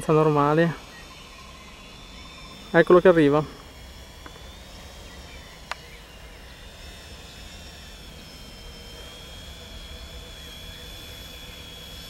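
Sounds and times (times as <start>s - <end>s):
quadcopter propellers whining: 0.0s - 12.0s.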